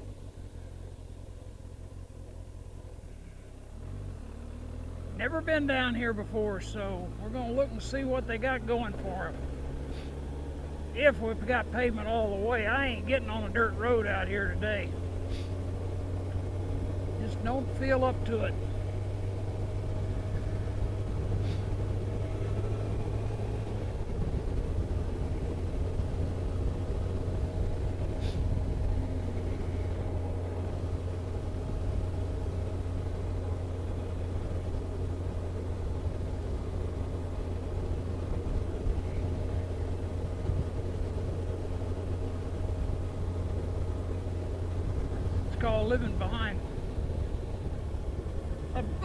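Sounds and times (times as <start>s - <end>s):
car engine and road drone: 0.0s - 49.0s.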